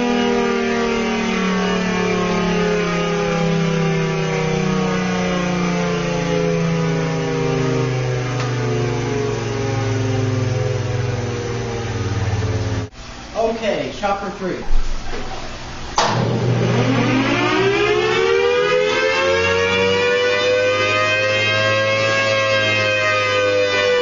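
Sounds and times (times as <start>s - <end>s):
siren winding down: 0.0s - 12.9s, 15.8s - 24.0s.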